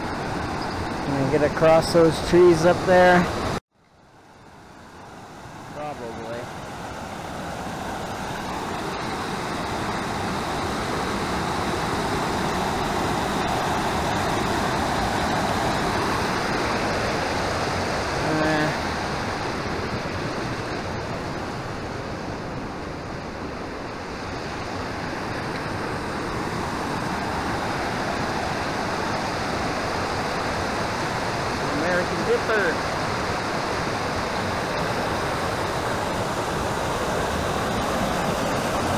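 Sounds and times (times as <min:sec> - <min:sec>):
mountain creek rushing: 0:00.0 - 0:03.6, 0:04.2 - 0:38.9.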